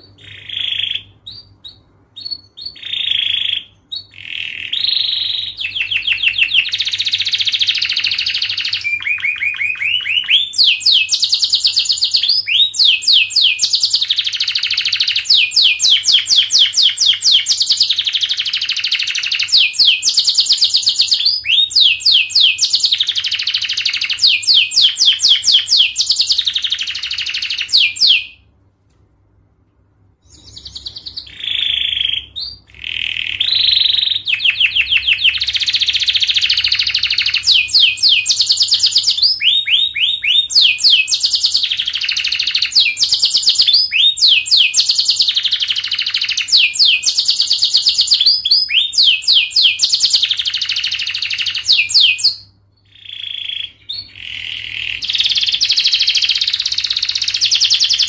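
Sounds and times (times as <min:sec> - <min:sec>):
canary singing trills: 0:00.0 - 0:28.5, 0:30.2 - 0:58.0.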